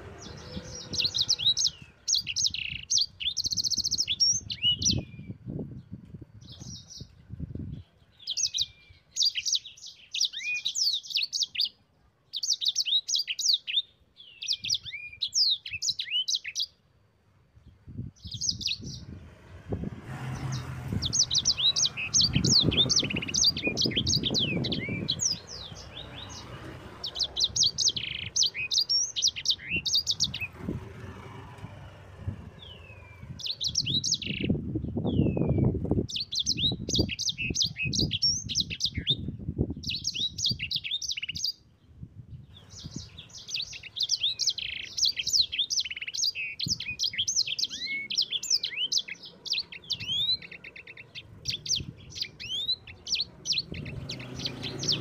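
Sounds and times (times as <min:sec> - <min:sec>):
canary singing trills: 0:00.0 - 0:16.8, 0:18.1 - 0:19.6, 0:20.2 - 0:55.0.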